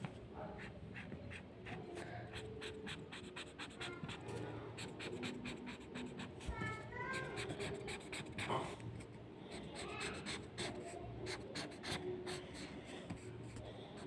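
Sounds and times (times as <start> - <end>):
marker pen scratching paper: 0.6 - 14.0.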